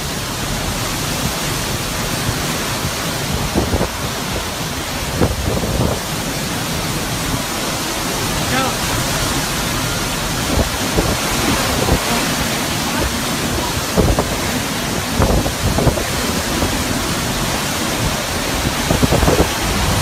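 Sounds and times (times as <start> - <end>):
driving rain: 0.0 - 20.0
strong wind: 0.0 - 20.0
wind buffeting microphone: 0.0 - 20.0.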